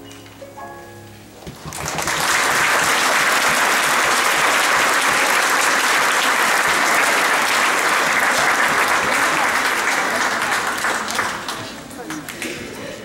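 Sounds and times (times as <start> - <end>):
audience applauding: 1.5 - 12.8.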